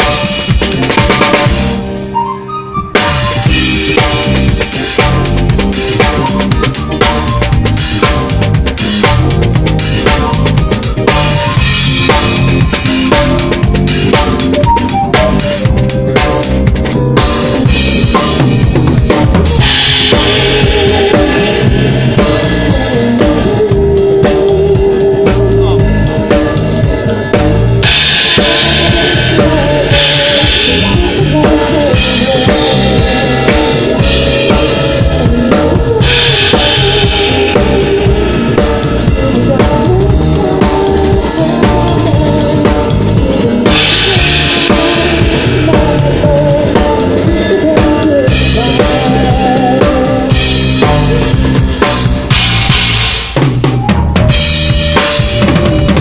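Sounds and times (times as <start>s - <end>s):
band playing loud music: 0.0s - 56.0s
drum kit: 0.0s - 56.0s.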